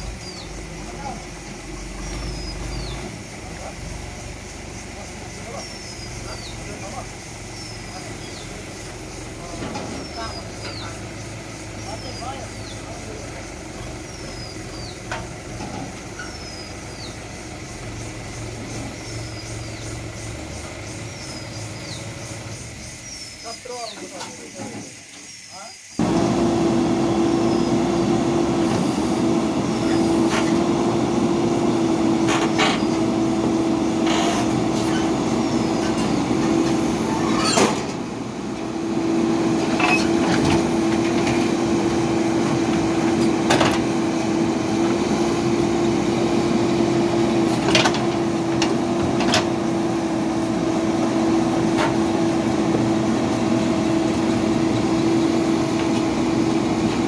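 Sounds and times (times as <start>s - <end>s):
heavy diesel machinery humming: 0.0s - 24.8s, 26.0s - 57.0s.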